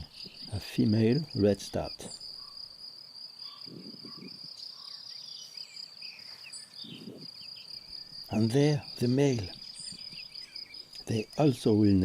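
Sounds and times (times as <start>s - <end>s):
crickets trilling: 0.0s - 12.0s
faint bird chirps: 0.0s - 12.0s.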